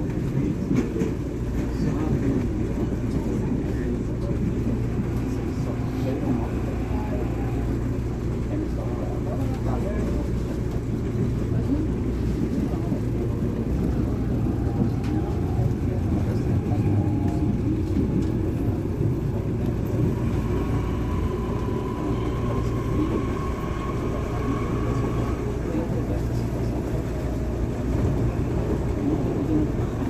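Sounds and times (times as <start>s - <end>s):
faint train whine: 0.0s - 30.0s
train low rumble: 0.0s - 30.0s.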